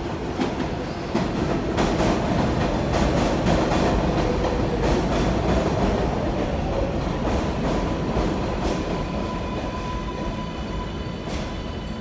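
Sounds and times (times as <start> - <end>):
train rumbling on elevated track: 0.0 - 12.0.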